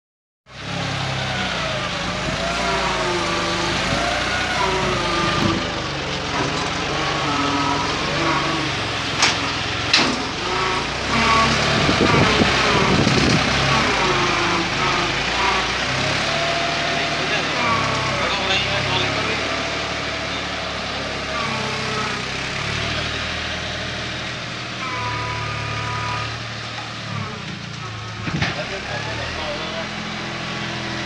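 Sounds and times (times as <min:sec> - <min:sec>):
tractor diesel engine under load: 0:00.5 - 0:31.0.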